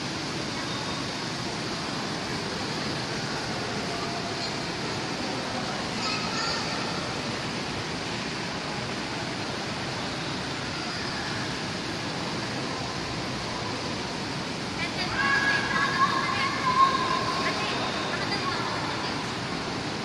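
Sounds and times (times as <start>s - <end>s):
steady wash of mall noise: 0.0s - 20.0s.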